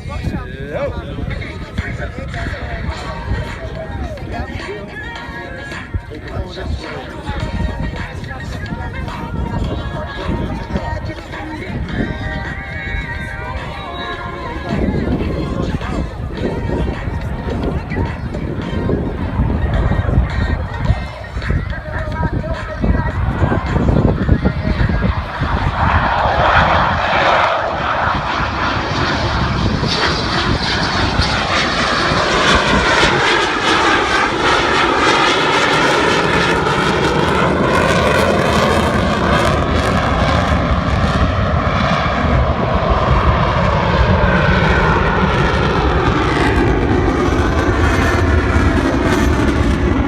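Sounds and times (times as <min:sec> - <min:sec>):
jet engines flying past: 0:00.0 - 0:50.0.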